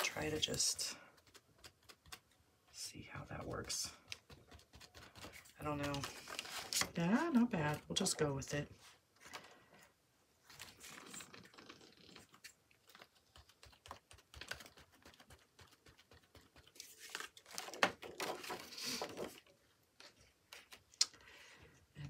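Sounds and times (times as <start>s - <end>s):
plastic stencil rustling: 0.0s - 2.8s, 3.4s - 8.2s, 10.4s - 21.0s.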